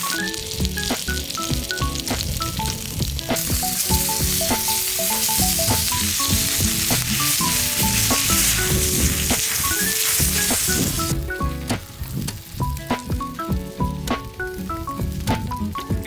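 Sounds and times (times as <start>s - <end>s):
food sizzling in pan: 0.0s - 16.0s
light melodic background music: 0.0s - 16.0s.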